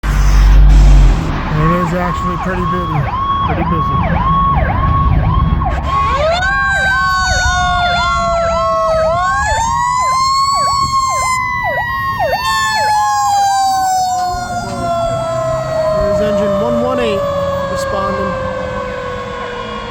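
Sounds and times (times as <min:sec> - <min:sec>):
low engine rumble: 0:00.0 - 0:07.7, 0:08.3 - 0:19.9
electronic siren yelp: 0:00.0 - 0:19.9
wailing siren: 0:00.0 - 0:19.9.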